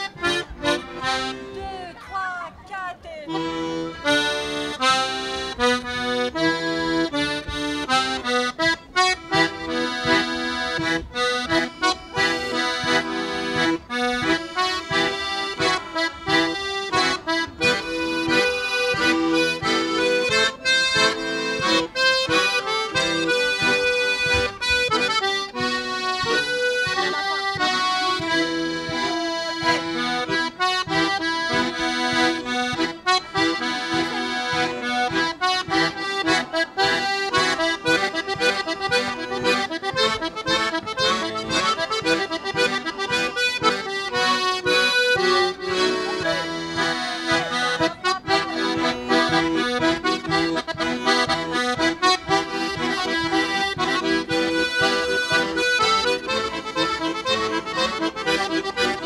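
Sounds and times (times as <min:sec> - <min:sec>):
accordions playing a tune: 0:00.0 - 0:59.0.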